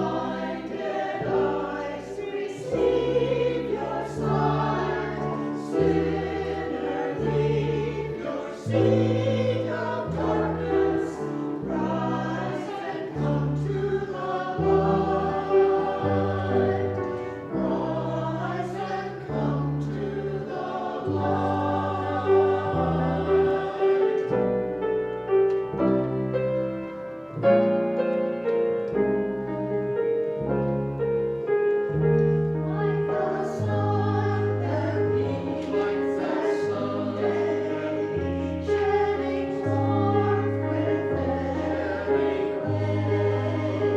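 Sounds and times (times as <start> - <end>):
choir singing a hymn: 0.0 - 43.9
instrumental accompaniment: 0.0 - 43.9.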